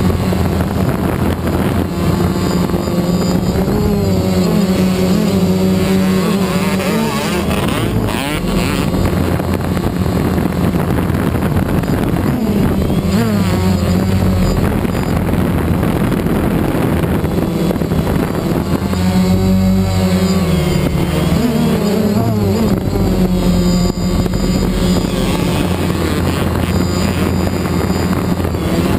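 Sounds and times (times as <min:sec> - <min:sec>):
drone buzzing: 0:00.0 - 0:28.9
motorbike engine revving: 0:00.0 - 0:28.9
wind on microphone: 0:00.0 - 0:28.9.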